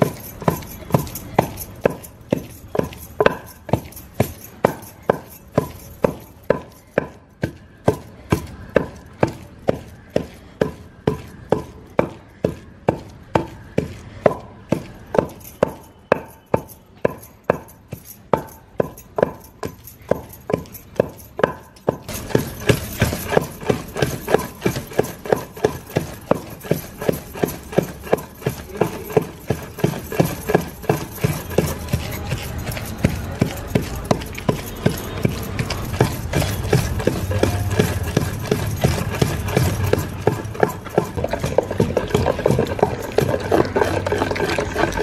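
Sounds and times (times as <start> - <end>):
rhythmic knocking with ringing tone: 0.0 - 45.0.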